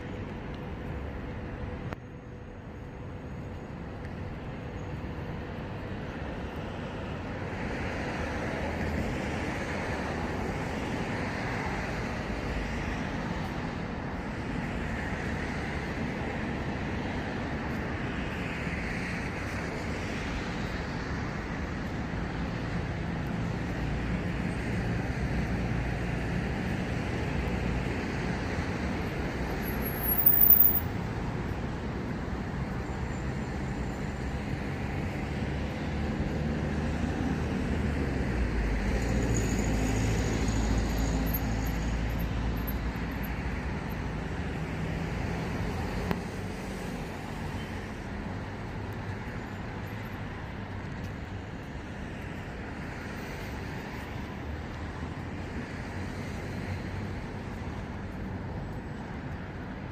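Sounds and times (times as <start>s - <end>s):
passing cars: 0.0s - 59.9s.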